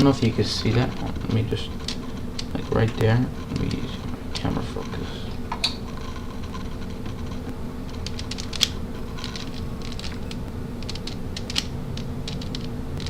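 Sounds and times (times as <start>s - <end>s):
plastic puzzle cube clicking: 0.0s - 13.0s.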